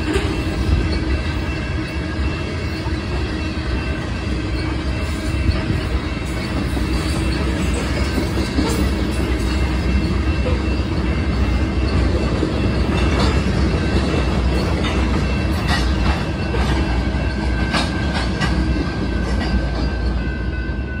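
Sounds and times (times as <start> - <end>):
freight train rolling past: 0.0 - 21.0
wheels clacking on rail: 0.0 - 21.0.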